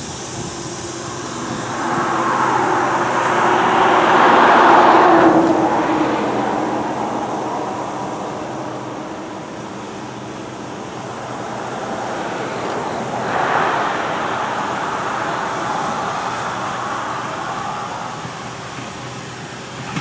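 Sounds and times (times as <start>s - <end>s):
steam locomotive exhaust: 0.0s - 20.0s.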